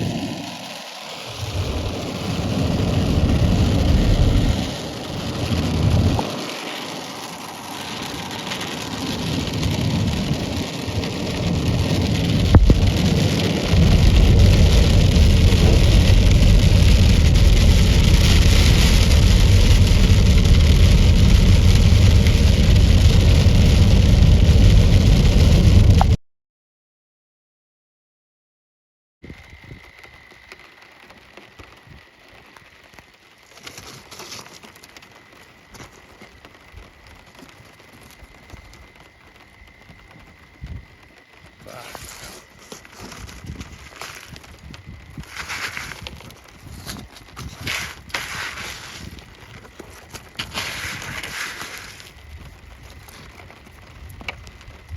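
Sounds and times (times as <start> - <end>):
hail and heavy rain pelting: 0.0 - 26.2, 29.4 - 54.9.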